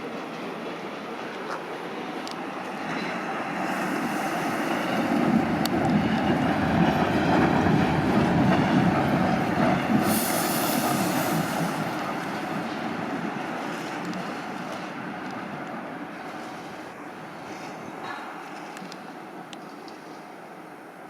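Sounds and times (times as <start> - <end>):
train running on rails: 0.0 - 21.0.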